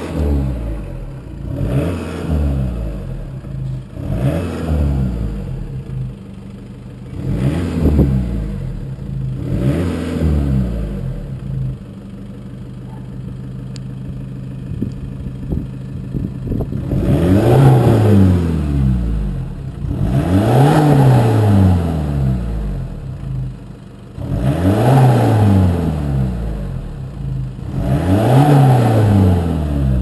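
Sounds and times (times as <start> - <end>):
car engine idling: 0.0 - 30.0
diesel car engine revving: 0.0 - 30.0.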